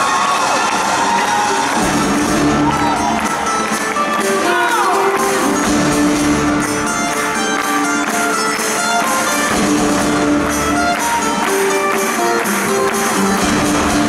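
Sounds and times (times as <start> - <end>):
acoustic guitars: 0.0 - 14.0
string section: 0.0 - 14.0
percussive beat: 1.7 - 14.0.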